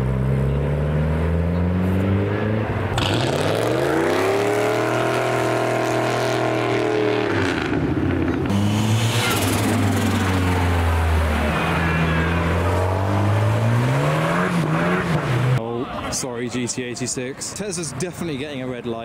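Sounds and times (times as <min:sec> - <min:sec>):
car engine revving: 0:00.0 - 0:15.6
car engine droning: 0:00.0 - 0:16.0.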